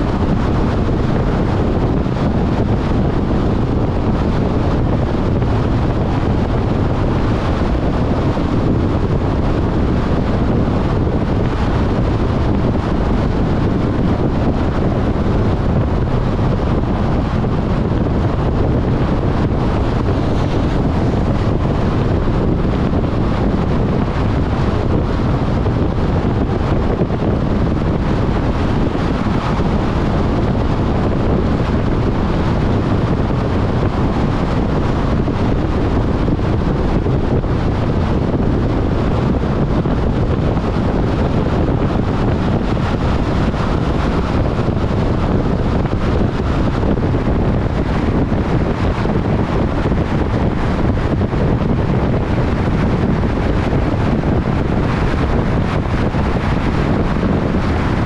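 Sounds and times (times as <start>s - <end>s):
car road noise: 0.0s - 58.0s
wind noise: 0.0s - 58.0s.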